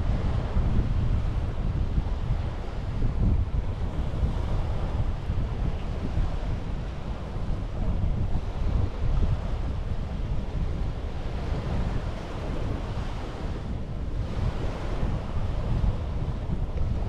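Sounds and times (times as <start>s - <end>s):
sea waves washing onto beach: 0.0s - 17.0s
wind buffeting microphone: 0.0s - 17.0s.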